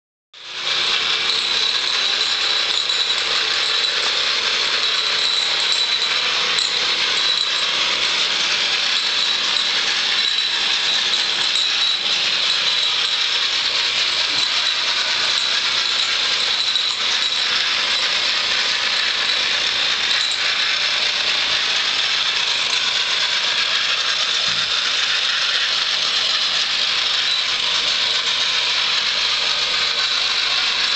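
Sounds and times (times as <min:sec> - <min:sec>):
model steam engine rattling: 0:00.4 - 0:30.9.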